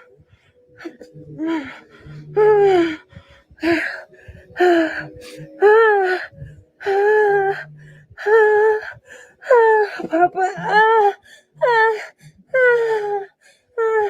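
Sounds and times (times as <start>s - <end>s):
woman moaning: 0.8s - 3.0s, 3.6s - 14.0s.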